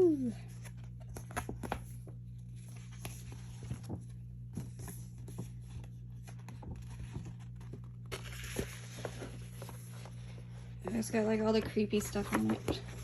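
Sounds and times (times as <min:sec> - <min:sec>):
paper rustling: 0:00.4 - 0:13.0.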